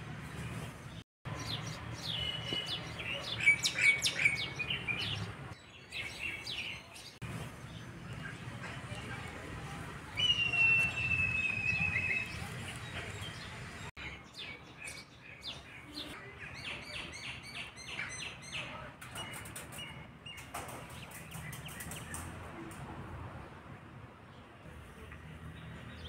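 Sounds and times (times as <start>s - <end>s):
small birds chirping and singing: 0.2s - 22.4s.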